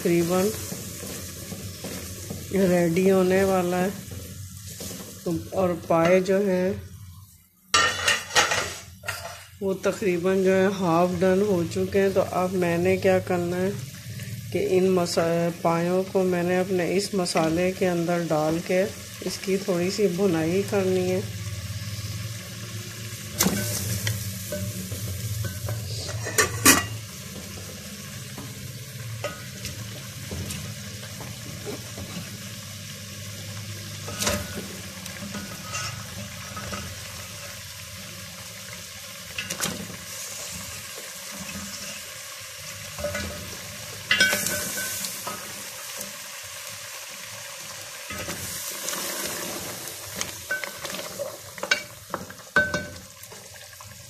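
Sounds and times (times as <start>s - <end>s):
meat sizzling in hot oil: 0.0s - 54.0s.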